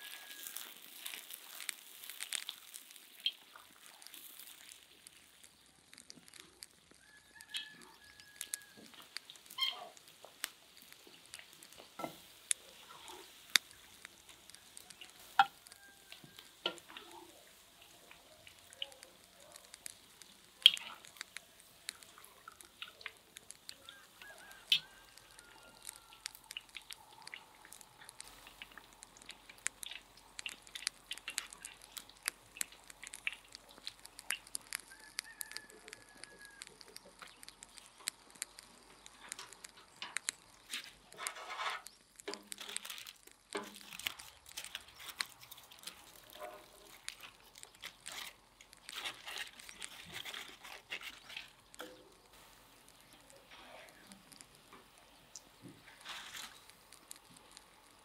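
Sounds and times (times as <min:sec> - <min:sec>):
aluminium foil rustling: 0:00.0 - 0:58.0
charcoal grill crackling: 0:00.0 - 0:58.0.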